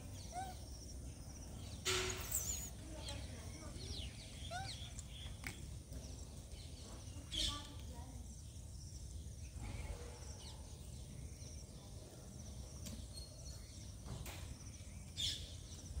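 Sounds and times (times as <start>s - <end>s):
faint high chirping: 0.0s - 14.1s.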